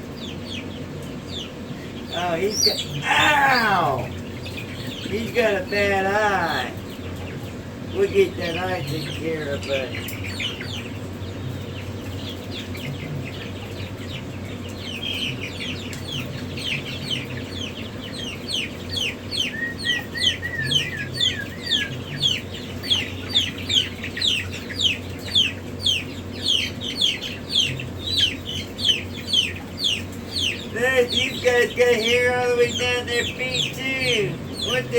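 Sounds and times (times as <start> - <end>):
chicks peeping: 0.0 - 34.9
steady low hum: 0.0 - 34.9.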